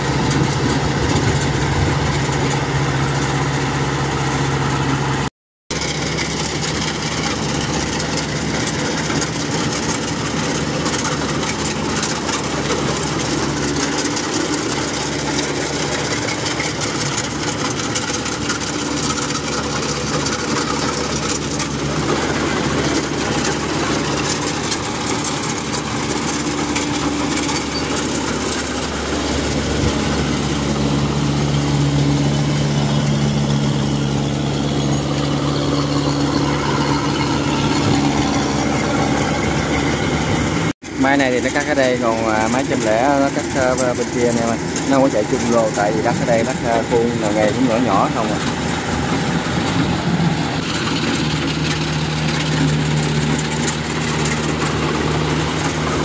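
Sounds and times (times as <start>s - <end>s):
diesel engine droning: 0.0s - 56.0s
harvester machinery clatter: 0.0s - 56.0s.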